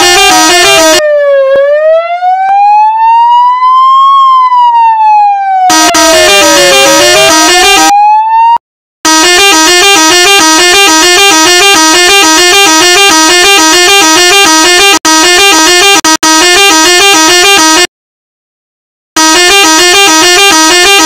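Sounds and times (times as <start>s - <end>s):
electronic two-tone siren: 0.0s - 17.9s, 19.2s - 21.0s.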